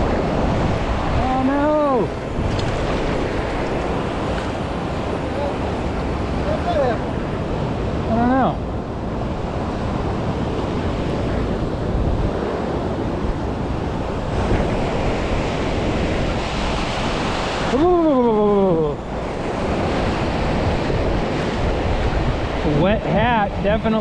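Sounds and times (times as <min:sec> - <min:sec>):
ocean surf washing up beach: 0:00.0 - 0:24.0
wind buffeting microphone: 0:00.0 - 0:24.0.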